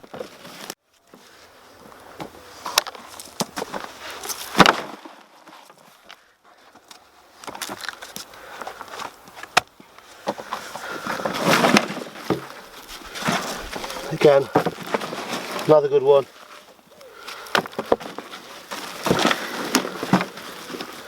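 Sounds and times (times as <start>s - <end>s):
soil rustling and scraping: 0.0s - 21.0s.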